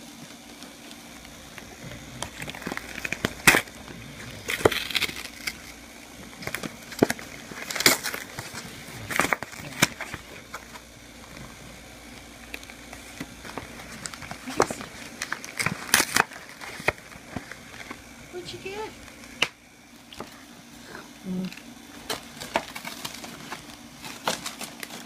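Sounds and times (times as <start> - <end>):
dog chewing packaging: 0.0 - 25.0.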